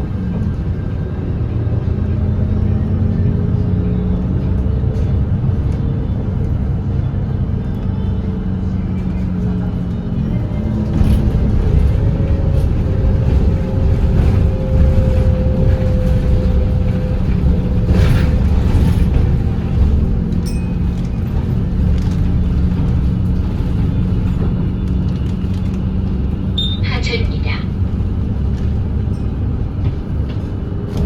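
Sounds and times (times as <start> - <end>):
bus diesel engine rumble: 0.0 - 31.0.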